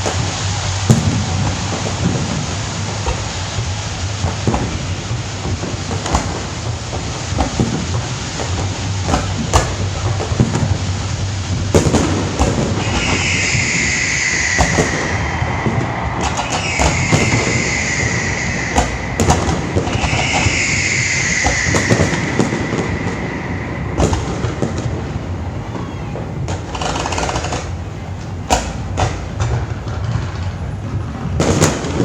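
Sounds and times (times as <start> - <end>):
firework whistles: 0.0 - 32.0
fireworks rumble and bangs: 0.0 - 32.0.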